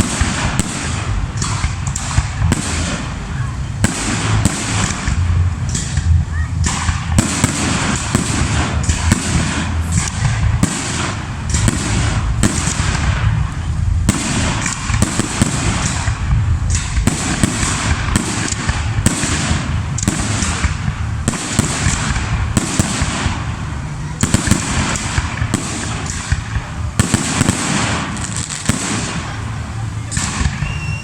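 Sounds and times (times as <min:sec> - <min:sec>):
fireworks bangs: 0:00.0 - 0:31.0
steady low rumble: 0:00.0 - 0:31.0.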